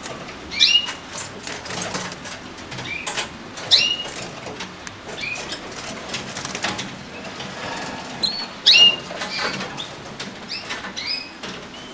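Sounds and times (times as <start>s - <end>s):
wings fluttering and feet tapping: 0.0s - 11.9s
canaries chirping: 0.4s - 11.9s.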